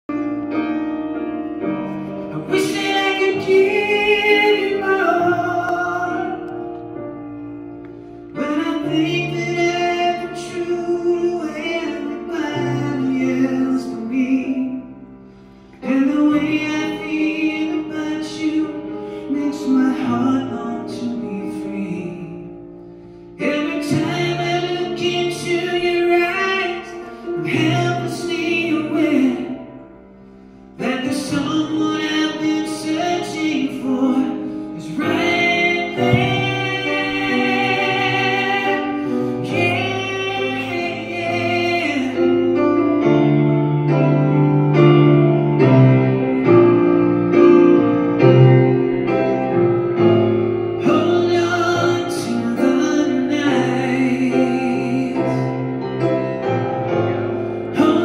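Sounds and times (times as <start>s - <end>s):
grand piano: 0.0s - 58.0s
man singing: 2.0s - 6.8s, 8.2s - 15.1s, 15.8s - 22.8s, 23.4s - 29.9s, 30.8s - 43.2s, 45.6s - 56.0s, 57.4s - 58.0s.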